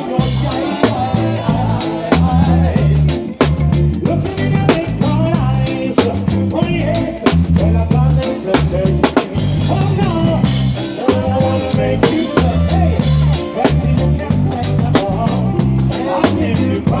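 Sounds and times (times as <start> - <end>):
live band playing upbeat tune: 0.0 - 17.0
pulsing bass line: 0.2 - 15.9.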